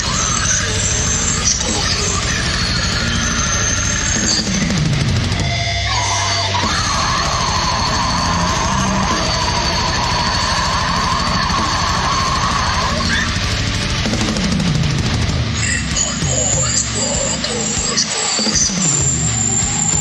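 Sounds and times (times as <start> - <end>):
distorted guitars: 0.0 - 20.0
harsh screamed vocals: 0.0 - 20.0.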